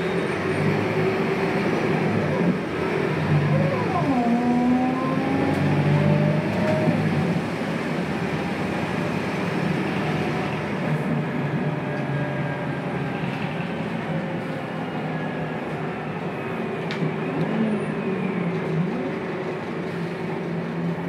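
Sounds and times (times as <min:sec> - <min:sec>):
bus diesel engine accelerating: 0:00.0 - 0:21.0.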